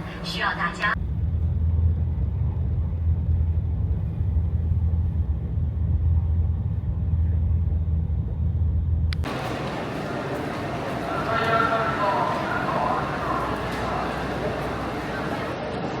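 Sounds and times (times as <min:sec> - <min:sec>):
train carriage rumble: 0:00.0 - 0:15.6.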